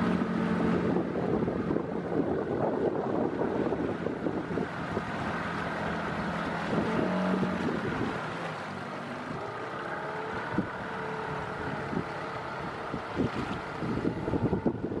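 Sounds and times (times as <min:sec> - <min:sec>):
wind on microphone: 0:00.0 - 0:08.6, 0:09.2 - 0:15.0
outboard motor running: 0:00.0 - 0:15.0
water slapping hull: 0:00.0 - 0:15.0.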